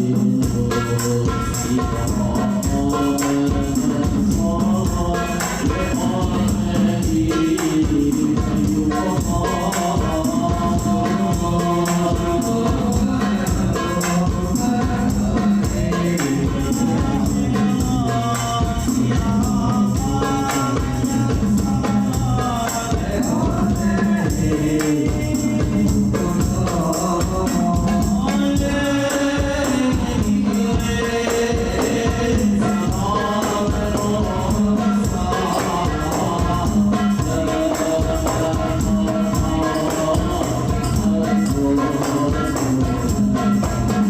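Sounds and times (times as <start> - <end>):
frame drums with jingles: 0.0 - 44.0
group singing devotional song: 0.0 - 44.0.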